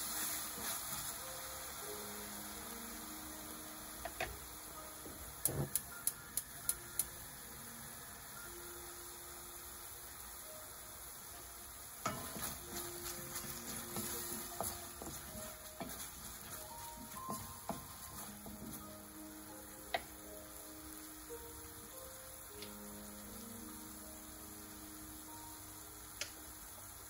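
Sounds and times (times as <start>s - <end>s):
vegetables sizzling in frying pan: 0.0s - 27.0s.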